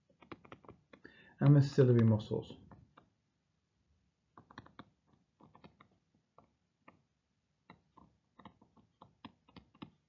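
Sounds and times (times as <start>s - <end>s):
stylus tapping on tablet: 0.1s - 3.2s, 4.3s - 10.0s.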